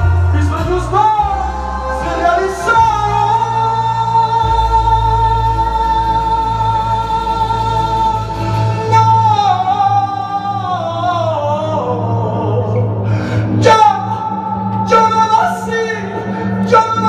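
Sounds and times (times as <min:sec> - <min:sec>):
backing music: 0:00.0 - 0:17.0
man singing into microphone: 0:00.0 - 0:17.0.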